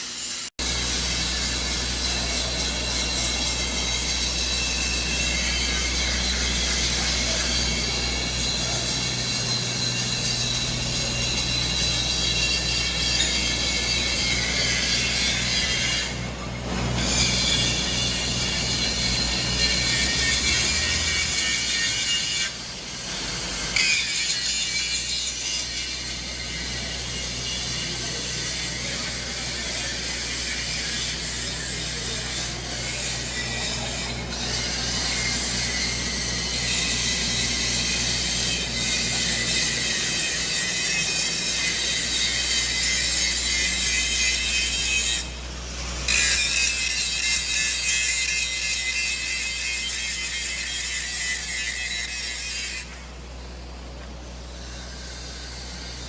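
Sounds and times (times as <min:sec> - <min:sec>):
welding arc crackling hiss: 0:00.0 - 0:56.0.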